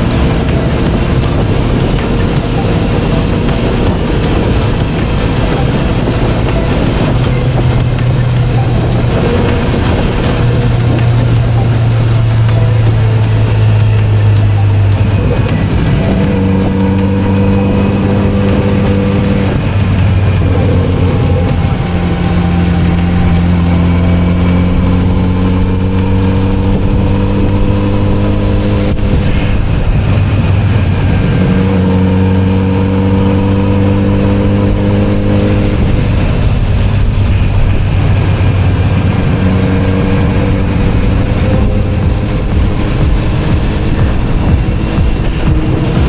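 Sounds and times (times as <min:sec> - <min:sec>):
motorcycle engine at road speed: 0:00.0 - 0:46.0.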